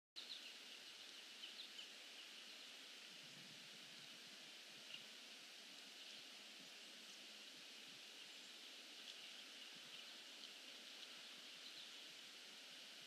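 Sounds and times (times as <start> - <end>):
faint outdoor hiss: 0.2 - 13.0.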